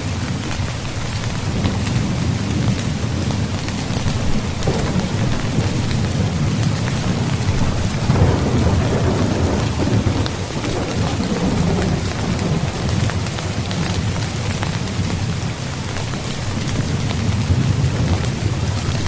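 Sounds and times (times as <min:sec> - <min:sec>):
rain falling on a tent: 0:00.0 - 0:19.0.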